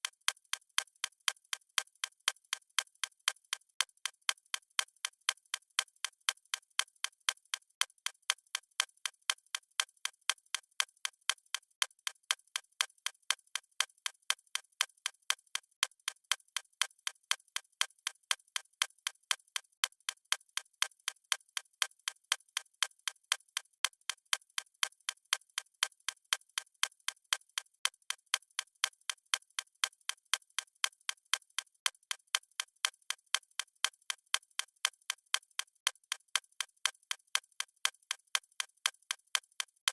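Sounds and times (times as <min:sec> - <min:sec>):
mechanical watch ticking: 0:00.0 - 0:39.9.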